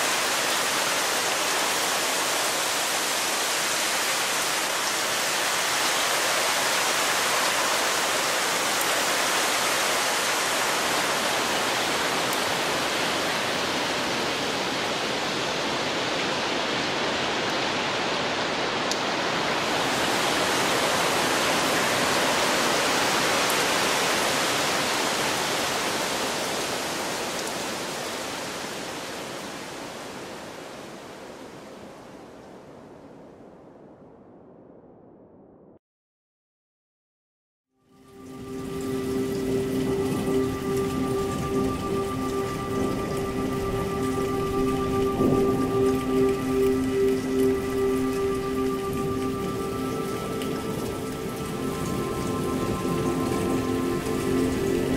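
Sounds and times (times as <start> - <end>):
heavy rain hiss: 0.0 - 32.0, 37.9 - 54.9.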